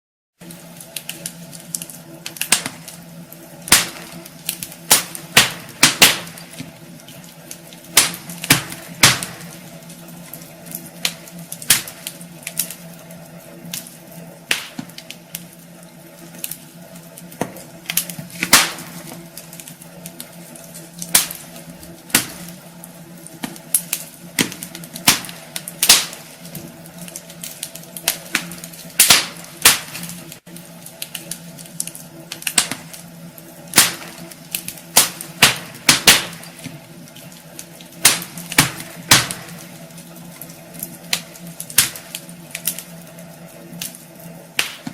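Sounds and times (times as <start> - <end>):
fire popping: 0.4 - 44.9
wood fire crackling: 0.4 - 44.9.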